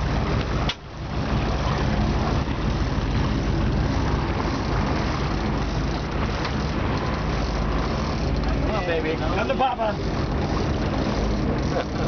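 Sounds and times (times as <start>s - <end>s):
boat engine droning: 0.0s - 12.0s
water rushing from wake: 0.0s - 12.0s.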